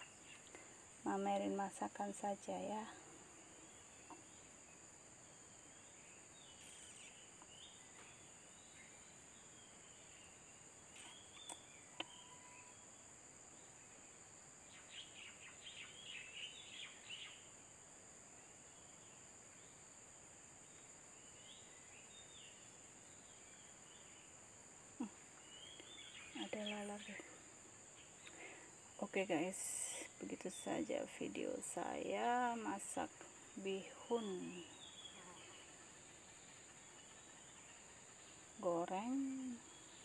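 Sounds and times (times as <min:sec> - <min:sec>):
faint bird chirps: 0:00.0 - 0:14.0, 0:14.6 - 0:17.6, 0:20.6 - 0:40.0
high insect drone: 0:00.0 - 0:40.0.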